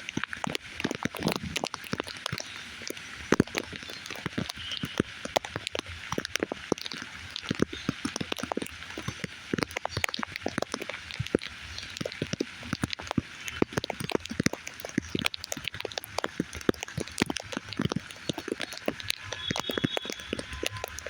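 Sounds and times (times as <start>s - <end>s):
rain hiss: 0.0s - 21.0s
raindrops ticking on a surface: 0.0s - 21.0s.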